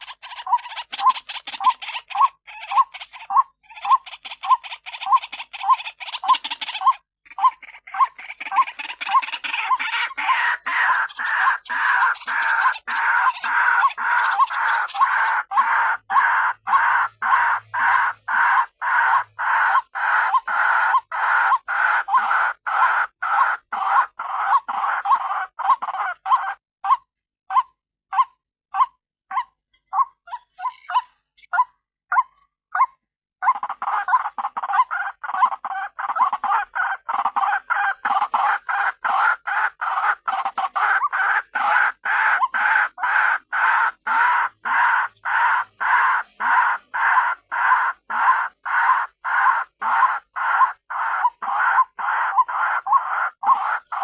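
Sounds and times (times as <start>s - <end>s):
waterhen calling: 0.0s - 26.6s, 33.4s - 54.0s.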